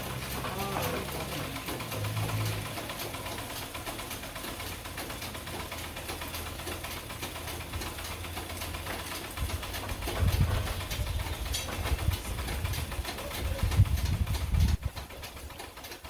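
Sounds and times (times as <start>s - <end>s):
engine running with mechanical rattle: 0.0s - 16.0s.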